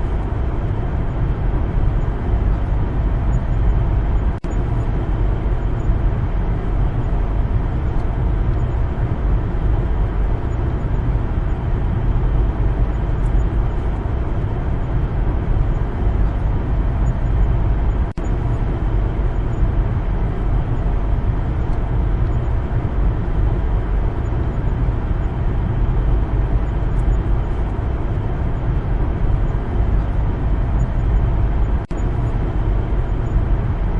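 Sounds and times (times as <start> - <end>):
car road and engine noise: 0.0 - 33.9.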